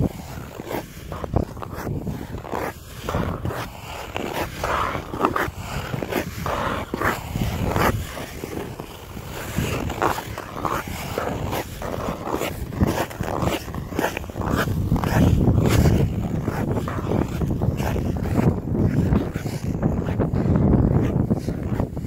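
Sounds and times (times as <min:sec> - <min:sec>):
ice skates scraping ice: 0:00.0 - 0:22.0.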